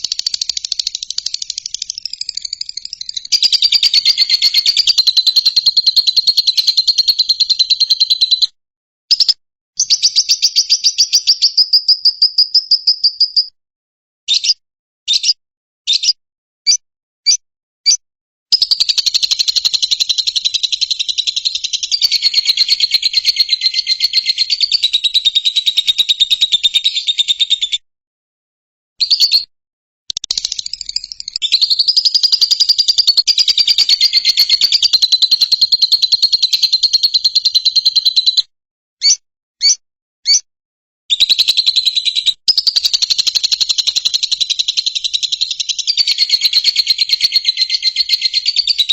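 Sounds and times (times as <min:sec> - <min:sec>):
lovebird chirping and trilling: 0:00.0 - 0:08.5, 0:09.1 - 0:13.5, 0:14.3 - 0:27.8, 0:29.0 - 0:29.5, 0:30.1 - 0:40.5, 0:41.1 - 0:48.9.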